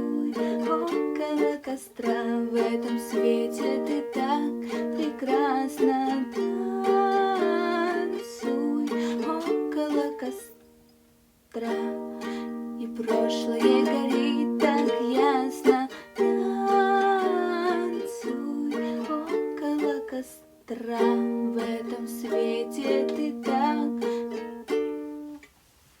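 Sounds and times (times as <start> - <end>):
ukulele strumming chords: 0.0 - 10.7, 11.6 - 25.5.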